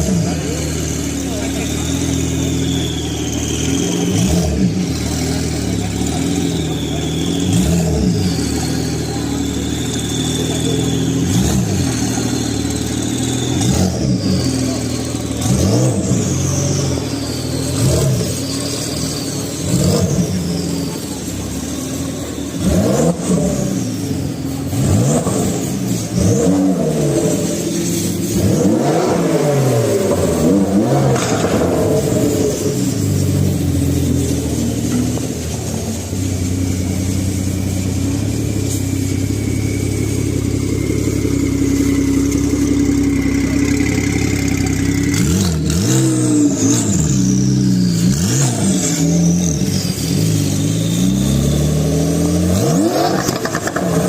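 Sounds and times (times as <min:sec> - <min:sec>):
car engine revving: 0:00.0 - 0:54.0
high whistle: 0:01.2 - 0:52.9.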